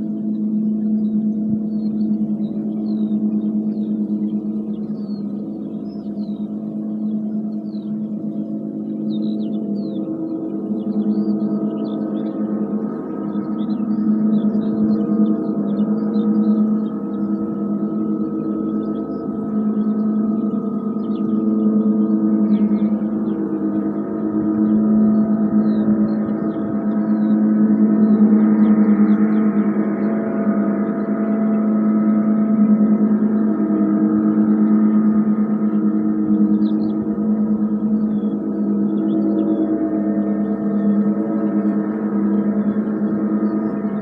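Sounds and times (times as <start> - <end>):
gong humming drone: 0.0 - 44.0.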